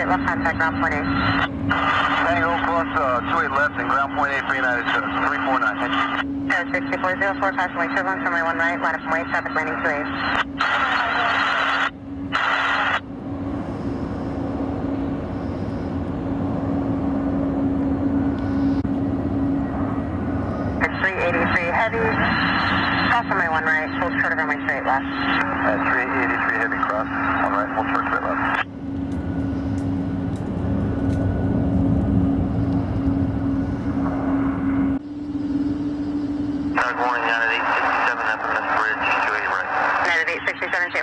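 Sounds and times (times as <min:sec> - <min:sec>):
constant hum: 0:00.0 - 0:41.0
jet engines rumbling: 0:00.0 - 0:41.0.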